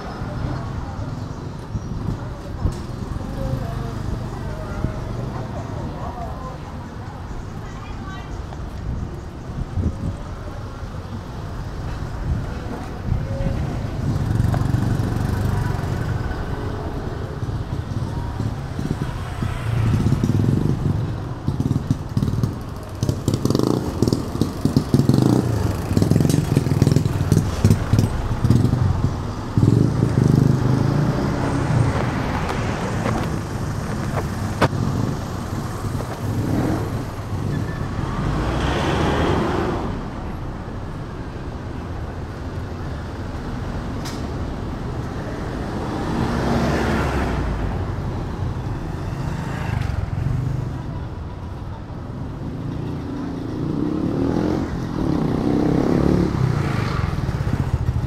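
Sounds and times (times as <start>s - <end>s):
vehicles passing by: 0.0s - 58.0s.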